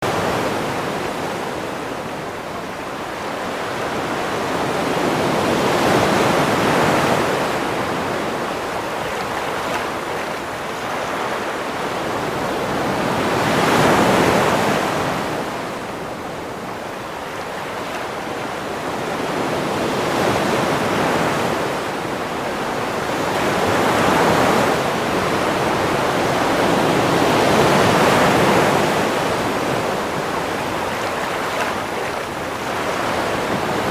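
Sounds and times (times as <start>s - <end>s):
sea waves breaking on shore: 0.0s - 33.9s.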